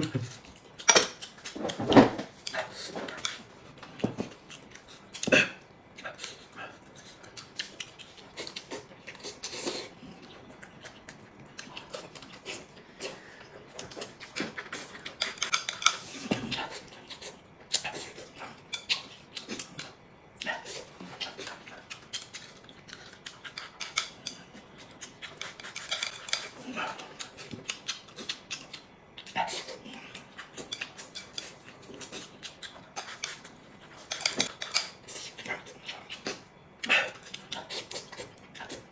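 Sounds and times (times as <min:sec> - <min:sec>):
mouth sounds of eating: 0:02.5 - 0:38.9.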